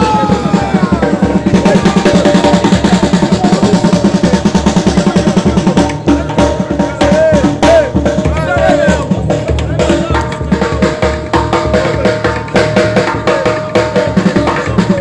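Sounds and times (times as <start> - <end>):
fast loud drumming: 0.0 - 15.0
voices: 0.0 - 15.0.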